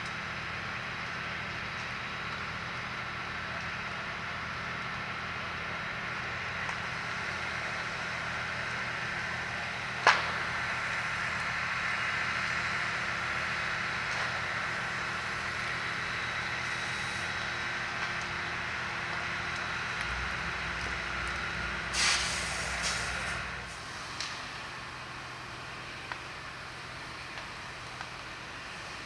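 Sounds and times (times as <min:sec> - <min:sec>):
low engine-like hum: 0:00.0 - 0:29.0.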